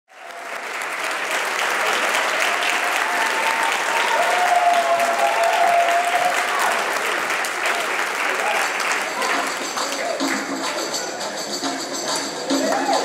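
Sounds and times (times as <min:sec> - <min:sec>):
audience applauding: 0:00.1 - 0:10.9.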